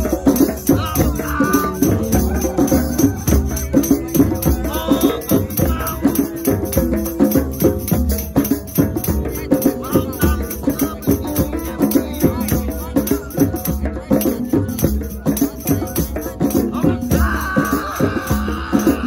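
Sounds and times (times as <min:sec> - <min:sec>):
hand drums beating: 0:00.0 - 0:19.0.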